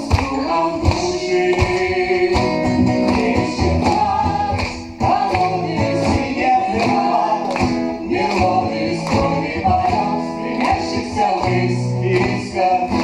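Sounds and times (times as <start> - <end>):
acoustic guitar accompaniment: 0.0 - 13.0
person singing: 0.0 - 13.0.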